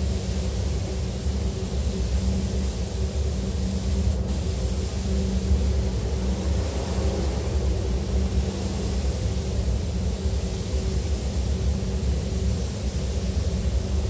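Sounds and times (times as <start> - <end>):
spray gun hissing: 0.0 - 14.0
ventilation drone: 0.0 - 14.0.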